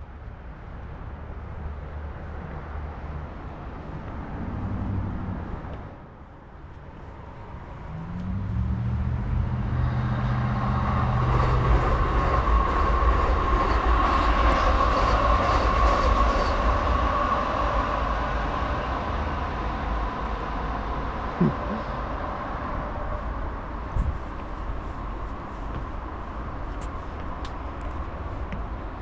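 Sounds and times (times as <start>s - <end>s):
train rolling rumble: 0.6s - 29.0s.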